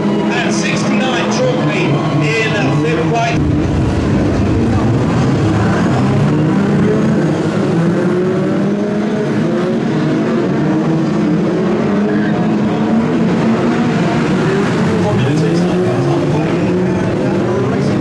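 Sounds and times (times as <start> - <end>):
stock car engines running: 0.0 - 18.0.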